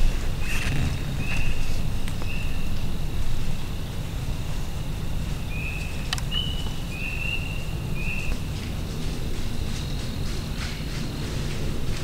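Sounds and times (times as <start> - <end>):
insects buzzy chirps: 0.0 - 12.0
steady low rumble: 0.0 - 12.0.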